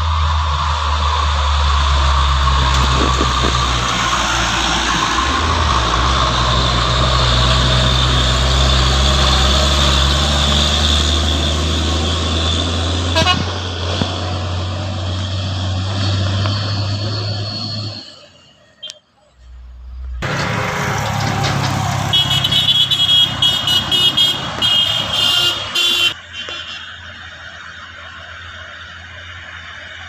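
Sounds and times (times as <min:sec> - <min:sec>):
truck engine running: 0:00.0 - 0:18.0, 0:19.4 - 0:30.0
road and wind noise: 0:00.0 - 0:30.0.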